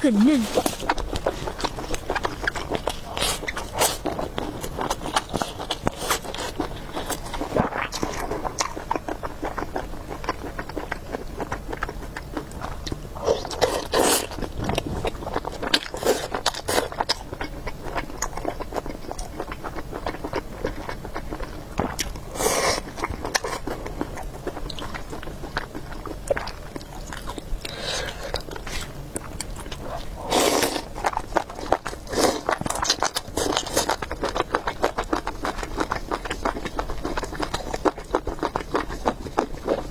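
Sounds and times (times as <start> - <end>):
noisy eating bursts: 0.0 - 39.9
wet chewing: 0.2 - 39.9.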